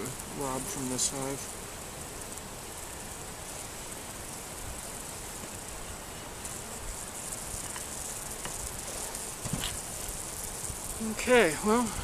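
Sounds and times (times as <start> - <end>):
insect chirring buzz: 0.0 - 12.0.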